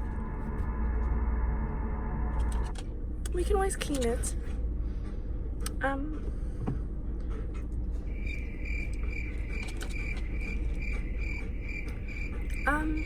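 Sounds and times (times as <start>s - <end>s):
low hum of car: 0.0s - 13.0s.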